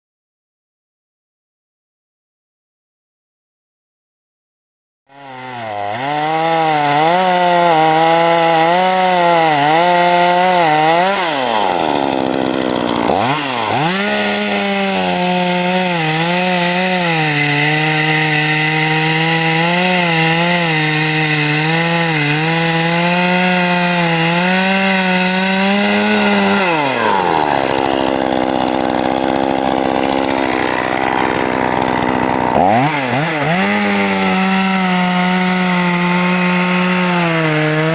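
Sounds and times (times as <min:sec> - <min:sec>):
chainsaw running at high revs: 0:05.1 - 0:37.9
chain rasping through wood: 0:05.9 - 0:37.9.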